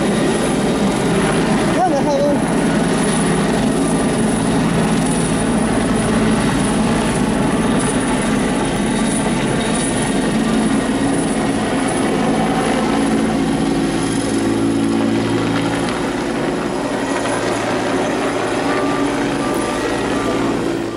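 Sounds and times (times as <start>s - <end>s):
helicopter flying overhead: 0.0s - 20.9s.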